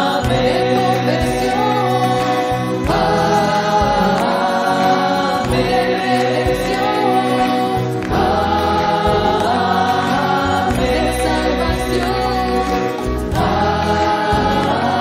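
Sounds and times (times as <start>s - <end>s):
congregation singing: 0.0s - 15.0s
low instrumental accompaniment: 0.0s - 15.0s.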